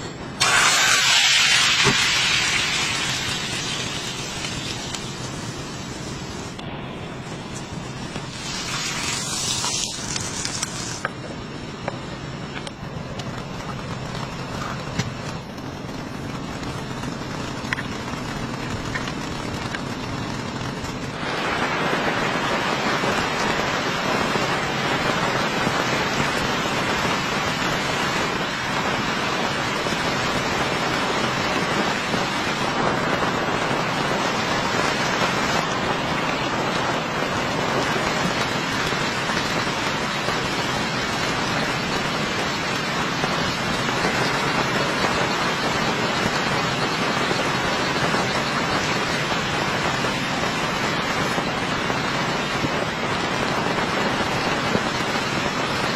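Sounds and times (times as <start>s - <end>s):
heavy rain falling: 0.3s - 55.9s.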